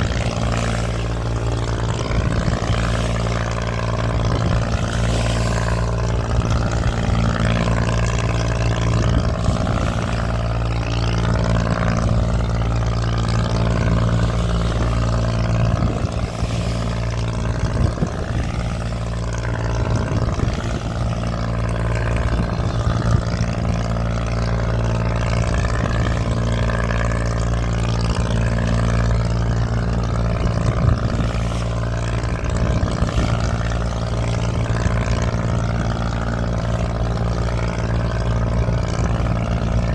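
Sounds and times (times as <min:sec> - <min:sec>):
boat engine running: 0:00.0 - 0:39.9
water rushing along hull: 0:00.0 - 0:39.9.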